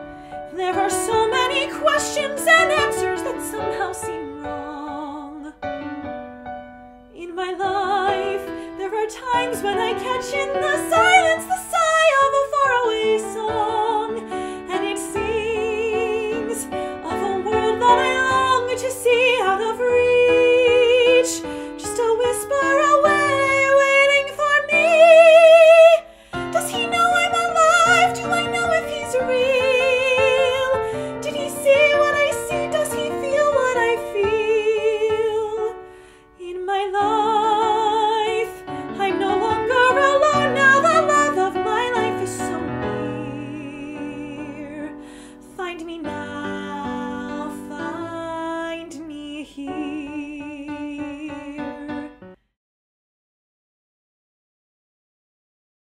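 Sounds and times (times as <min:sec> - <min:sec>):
woman singing with vibrato: 0:00.0 - 0:05.6, 0:07.2 - 0:35.8, 0:36.4 - 0:52.1
piano accompaniment: 0:00.0 - 0:52.4.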